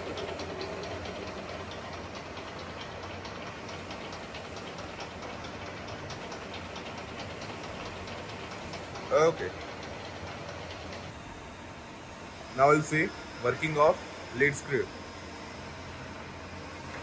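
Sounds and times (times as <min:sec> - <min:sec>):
lathe gear train running: 0:00.0 - 0:17.0.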